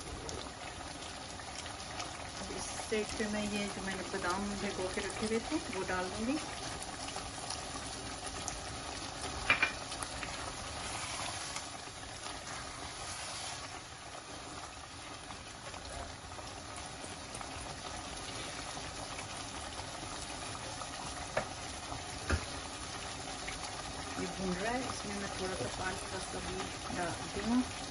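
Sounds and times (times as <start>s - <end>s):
sauce bubbling and sizzling: 0.0s - 27.9s.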